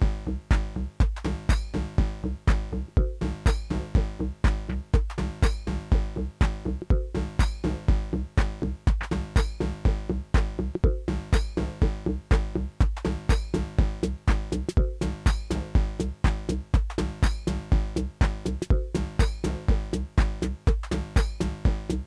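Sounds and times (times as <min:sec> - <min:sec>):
kick drum: 0:00.0 - 0:22.0
offbeat hi-hats: 0:00.0 - 0:22.0
synth bassline: 0:00.0 - 0:22.0.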